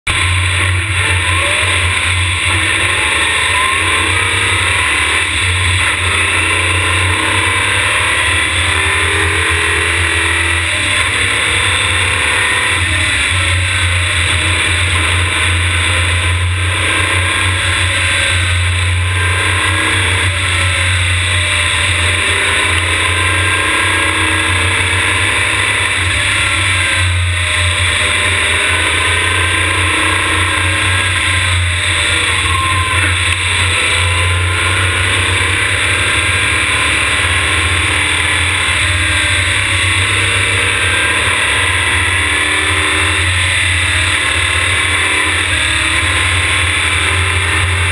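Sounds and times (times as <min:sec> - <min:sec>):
race car engine accelerating: 0:00.0 - 0:47.9.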